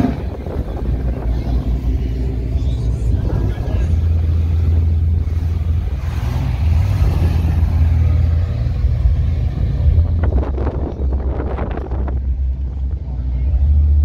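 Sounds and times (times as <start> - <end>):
car engine driving off: 0.0 - 14.0.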